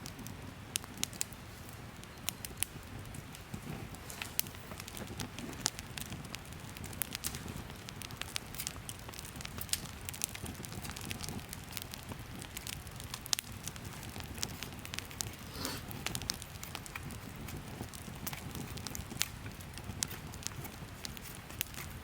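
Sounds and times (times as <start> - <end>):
campfire crackling: 0.0 - 22.0
low rush of flames: 0.0 - 22.0.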